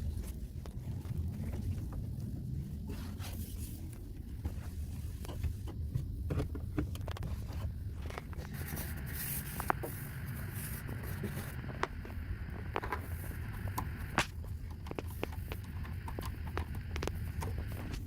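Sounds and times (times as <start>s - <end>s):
low handling rumble: 0.0s - 18.0s
rubbing and scraping while cleaning: 0.0s - 18.0s.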